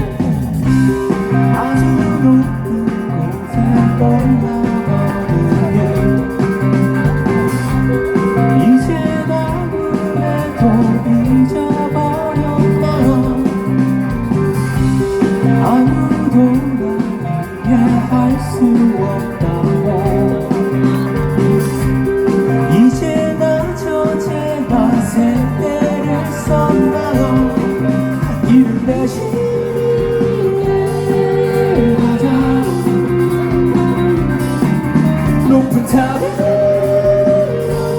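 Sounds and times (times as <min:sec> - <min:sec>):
bass guitar: 0:00.0 - 0:37.9
drums: 0:00.0 - 0:37.9
electric guitars: 0:00.0 - 0:37.9.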